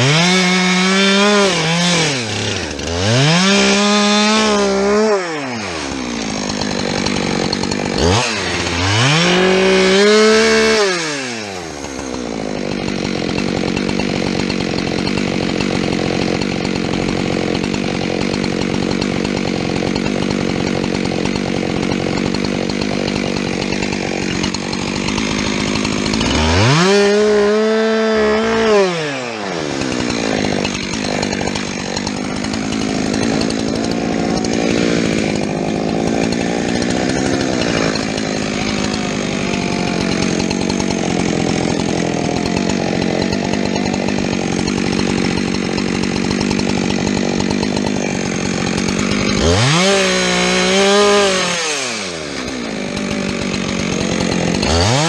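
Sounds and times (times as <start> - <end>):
chainsaw cutting wood: 0.0 - 55.0
chainsaw revving: 0.0 - 55.0.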